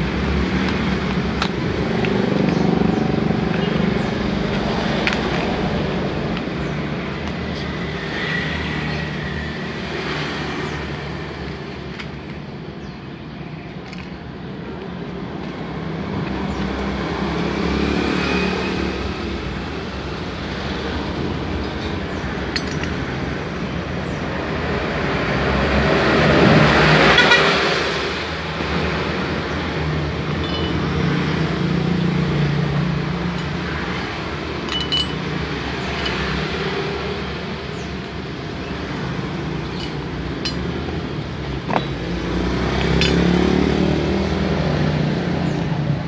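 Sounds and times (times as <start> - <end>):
road traffic passing: 0.0 - 46.0.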